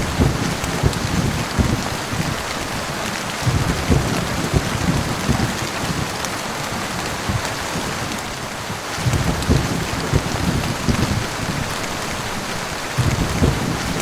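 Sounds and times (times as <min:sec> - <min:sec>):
heavy rain hissing: 0:00.0 - 0:14.0
low thunder rumbling: 0:00.0 - 0:14.0.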